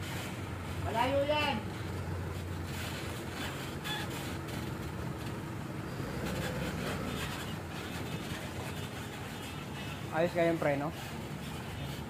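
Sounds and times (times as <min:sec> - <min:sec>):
minibus engine humming: 0:00.0 - 0:12.0.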